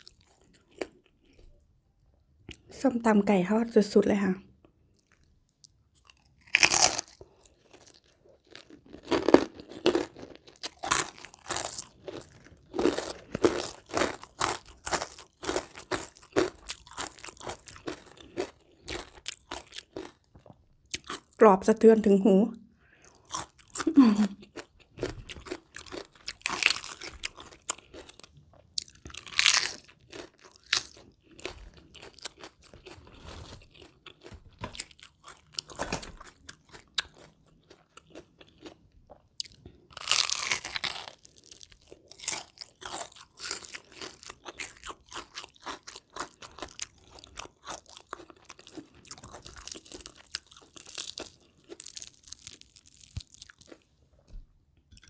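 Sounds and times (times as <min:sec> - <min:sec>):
crunchy fried chicken chewing: 0:00.0 - 0:01.5, 0:04.7 - 0:21.4, 0:23.0 - 0:53.9.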